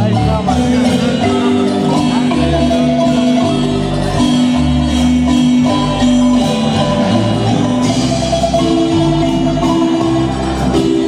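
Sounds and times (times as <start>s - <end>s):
low bass line: 0.0s - 11.0s
marimba melody: 0.0s - 11.0s.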